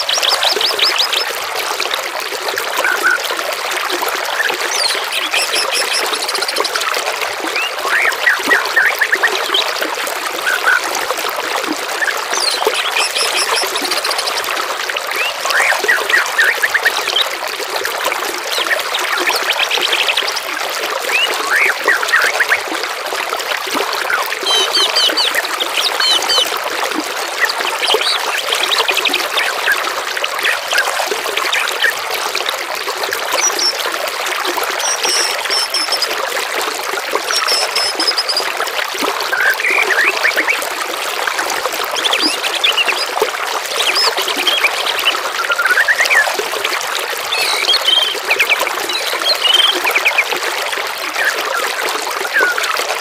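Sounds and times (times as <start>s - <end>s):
water trickling: 0.0s - 53.0s.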